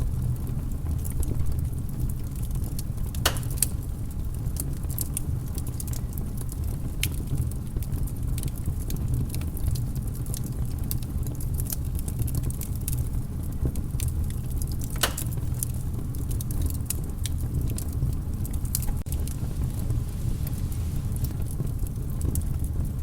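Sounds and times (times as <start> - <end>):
fire popping and snapping: 0.0 - 23.0
flames rumbling: 0.0 - 23.0.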